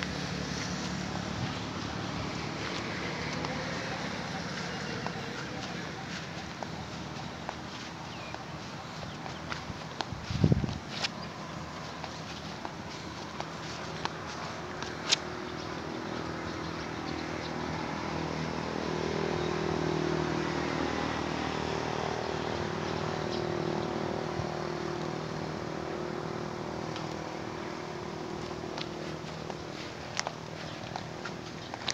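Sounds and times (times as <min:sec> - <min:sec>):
passing vehicle engine hum: 0:00.0 - 0:31.9.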